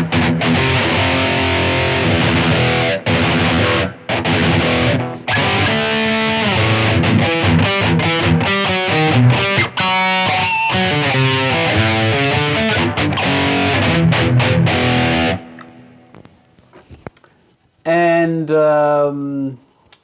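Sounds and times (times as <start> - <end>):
distorted electric guitar riff: 0.0 - 16.4.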